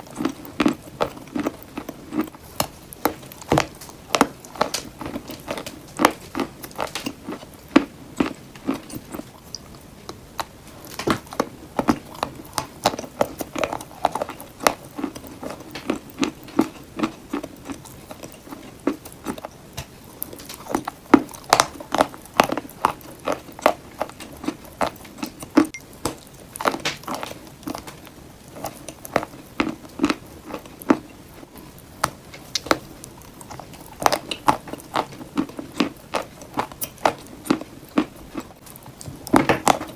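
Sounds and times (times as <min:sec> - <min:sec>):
quiet chewing: 0:00.0 - 0:39.9.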